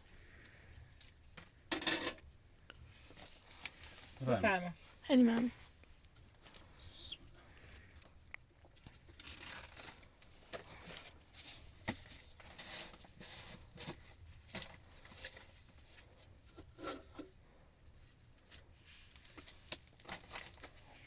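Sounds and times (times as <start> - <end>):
rustling handling sounds: 2.8 - 21.0.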